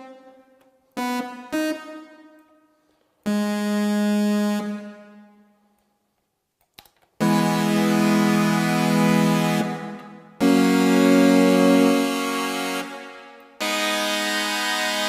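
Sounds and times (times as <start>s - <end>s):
synthesizer chords: 0.0s - 5.7s, 7.2s - 15.0s.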